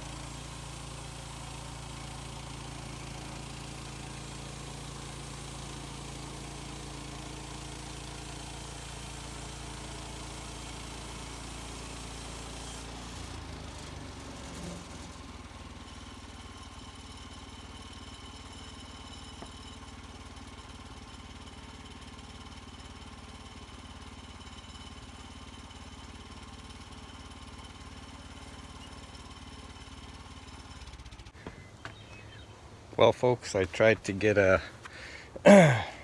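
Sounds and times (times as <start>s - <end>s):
gas engine running: 0.0s - 32.4s, 33.2s - 36.0s.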